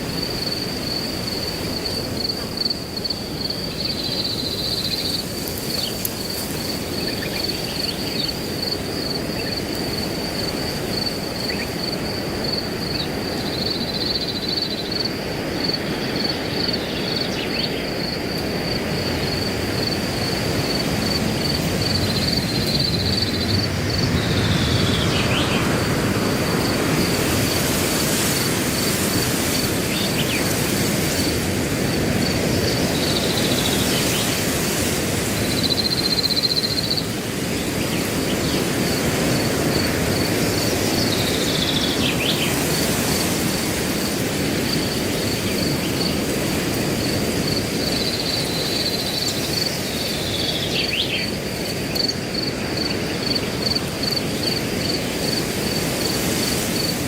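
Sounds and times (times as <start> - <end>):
high cricket chirp: 0.0 - 57.0
wind through grass: 0.0 - 57.0.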